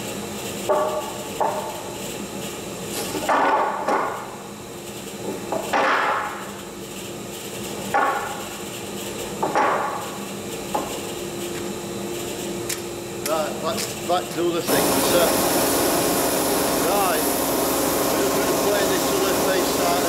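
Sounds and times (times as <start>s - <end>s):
faint machine hum: 0.0s - 20.0s.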